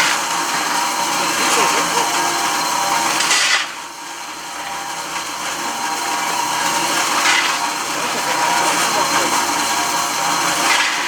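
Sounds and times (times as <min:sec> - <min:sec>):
electric motors whirring and grinding: 0:00.0 - 0:11.0.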